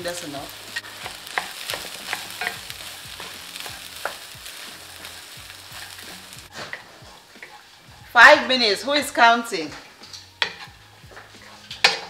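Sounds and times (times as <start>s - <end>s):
light sizzle: 0.0s - 12.0s
spatula scraping a wok: 0.5s - 8.8s, 9.6s - 12.0s.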